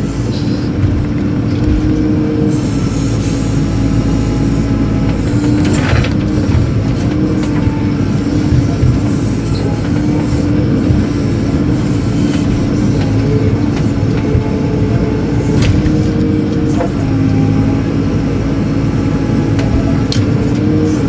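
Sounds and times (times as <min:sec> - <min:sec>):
diesel engine running under load: 0:00.0 - 0:21.0
engine whine: 0:00.0 - 0:21.0.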